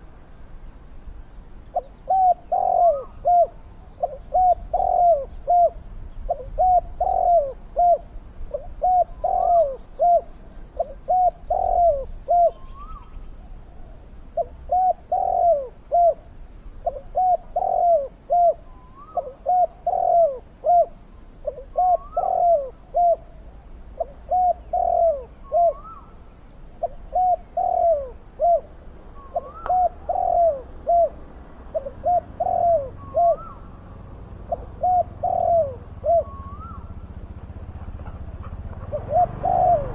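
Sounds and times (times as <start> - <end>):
doves cooing: 1.7 - 39.9.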